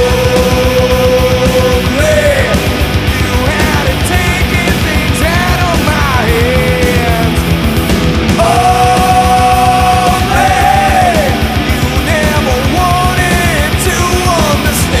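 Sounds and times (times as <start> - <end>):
person singing: 0.0 - 7.4, 8.4 - 15.0
fast dense drumming: 0.0 - 15.0
heavy rock music: 0.0 - 15.0.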